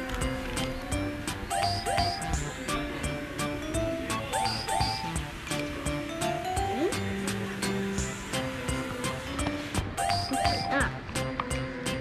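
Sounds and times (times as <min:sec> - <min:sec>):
background music with light percussion: 0:00.0 - 0:12.0.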